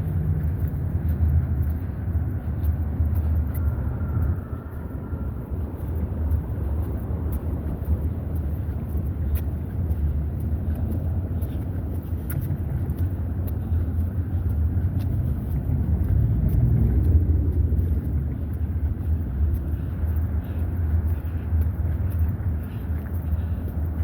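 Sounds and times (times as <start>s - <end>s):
road traffic rumbling: 0.0s - 24.0s.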